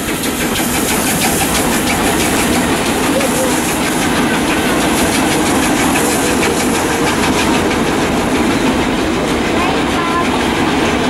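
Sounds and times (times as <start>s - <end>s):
train wheels clattering on rails: 0.0s - 11.0s.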